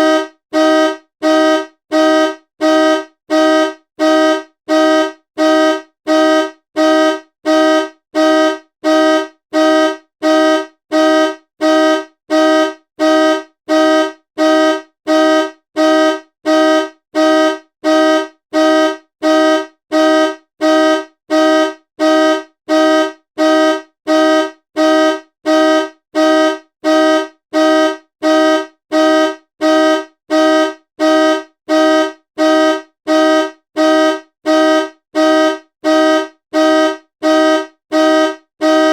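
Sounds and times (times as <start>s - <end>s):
car horn honking: 0.0s - 38.9s.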